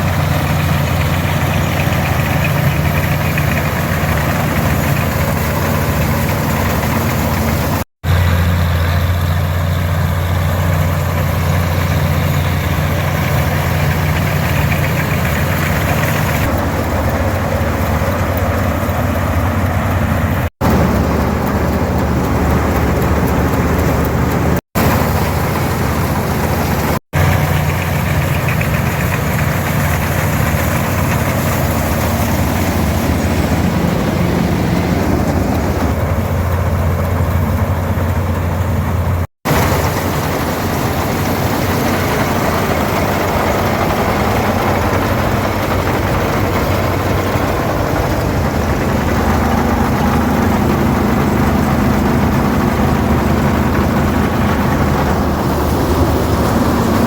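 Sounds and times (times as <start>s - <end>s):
combine threshing machinery: 0.0s - 57.0s
diesel tractor running: 0.0s - 57.0s.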